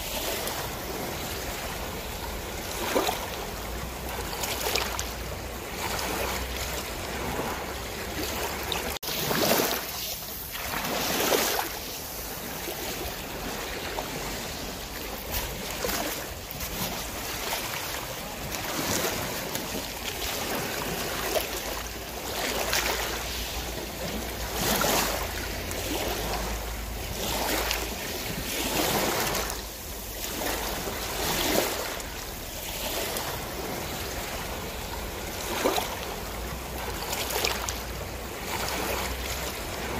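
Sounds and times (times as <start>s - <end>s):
sea water splashing along boat: 0.0s - 39.9s.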